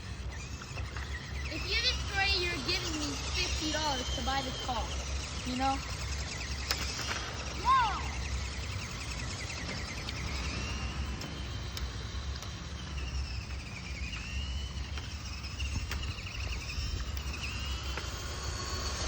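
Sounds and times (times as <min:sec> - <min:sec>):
toy car electric motor whining: 0:00.0 - 0:19.0.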